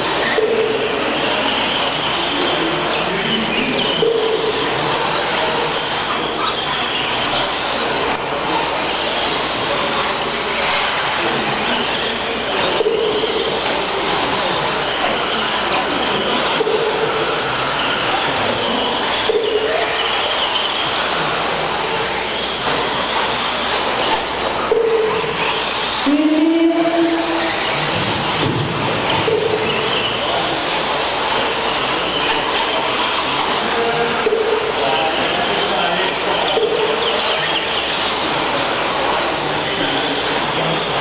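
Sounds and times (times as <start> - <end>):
rc truck motor whines: 0.0 - 41.0
steady loud noise: 0.0 - 41.0.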